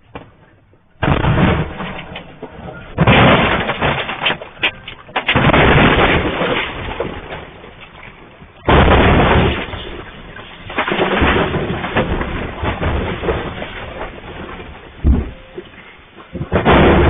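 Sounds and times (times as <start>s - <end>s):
boulders crashing down a slope: 1.0s - 17.0s.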